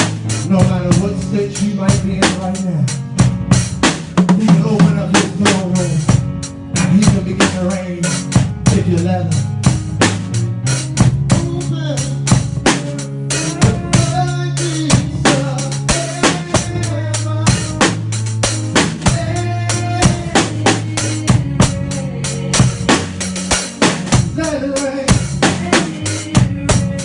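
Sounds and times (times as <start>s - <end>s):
drum kit groove: 0.0s - 27.0s
worship music track: 0.0s - 27.0s.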